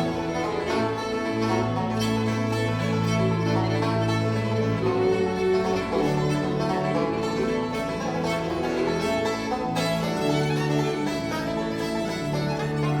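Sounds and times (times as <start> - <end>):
banjo and guitar picking: 0.0 - 13.0
fiddle: 0.0 - 13.0.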